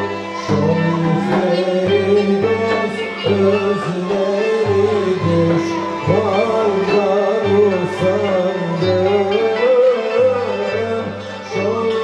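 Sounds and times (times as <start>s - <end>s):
frame drum beat: 0.0s - 12.0s
ney flute melody: 0.0s - 12.0s.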